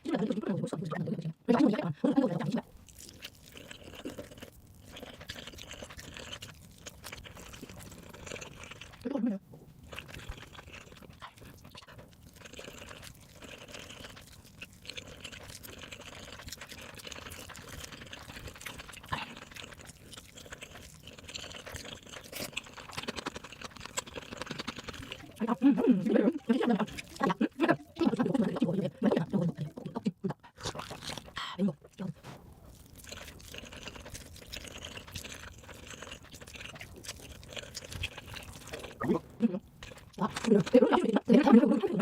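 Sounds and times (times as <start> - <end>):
crunching and chewing: 2.6 - 42.0.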